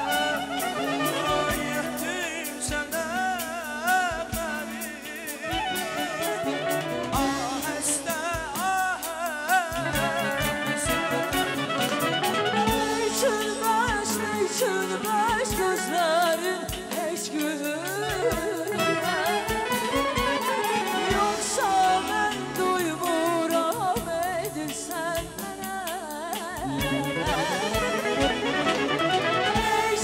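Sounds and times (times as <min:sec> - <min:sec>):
live band with clarinet: 0:00.0 - 0:30.0
woman singing with trills: 0:00.0 - 0:30.0.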